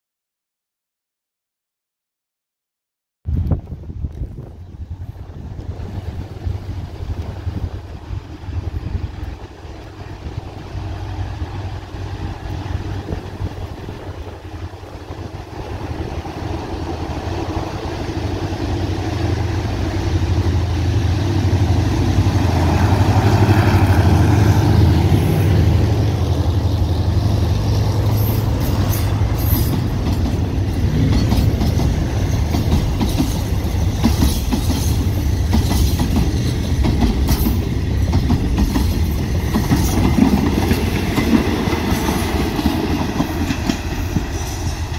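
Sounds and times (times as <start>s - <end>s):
locomotive engine drone: 3.6s - 44.9s
train wheels clickety-clack: 5.5s - 44.9s.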